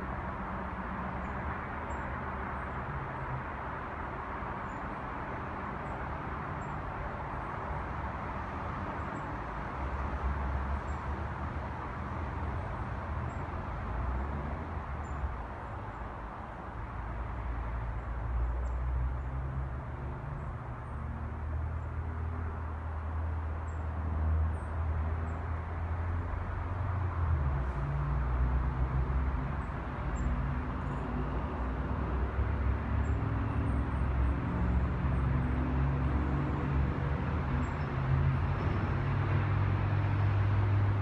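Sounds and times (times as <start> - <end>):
distant road traffic hum: 0.0 - 41.0
passing vehicles rumble: 0.0 - 41.0.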